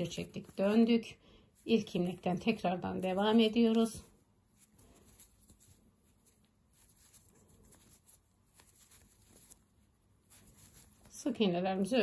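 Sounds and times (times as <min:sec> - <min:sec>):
crochet hook drawing yarn: 0:00.0 - 0:12.0.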